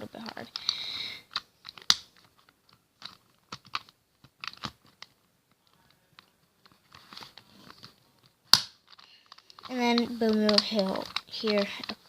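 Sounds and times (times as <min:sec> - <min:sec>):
plastic puzzle pieces clicking: 0:00.2 - 0:12.0
soft rustle: 0:01.6 - 0:12.0.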